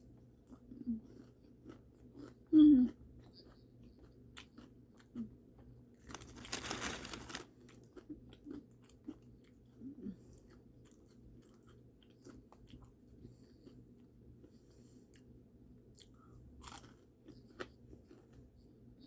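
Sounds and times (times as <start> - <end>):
person chewing crunchy food: 0.4 - 15.3, 15.9 - 18.8.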